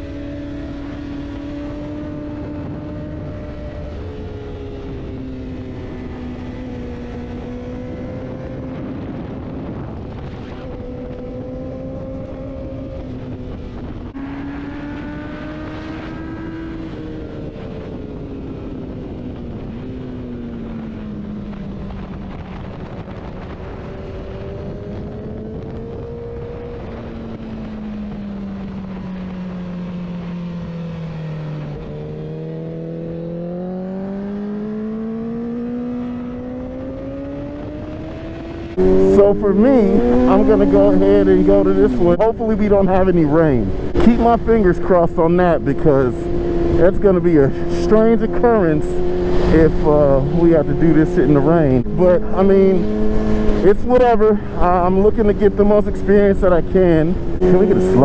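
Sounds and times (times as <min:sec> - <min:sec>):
motorcycle engine at speed: 0:00.0 - 0:58.0
wind rush: 0:00.0 - 0:58.0.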